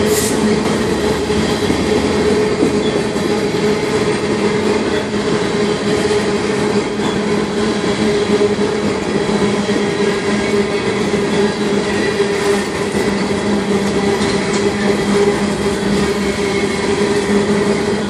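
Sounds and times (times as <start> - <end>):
steel wheels on rail: 0.0 - 18.0.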